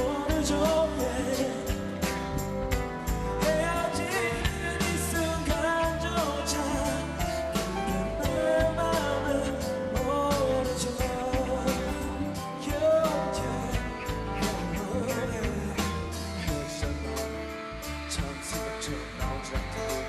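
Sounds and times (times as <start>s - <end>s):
live pop music over pa: 0.0s - 20.0s
person singing: 0.0s - 20.0s.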